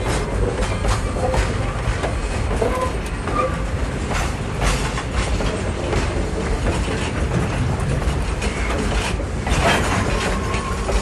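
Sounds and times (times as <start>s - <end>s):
train rumbling on rails: 0.0s - 11.0s
wheels clacking over rail joints: 0.0s - 11.0s.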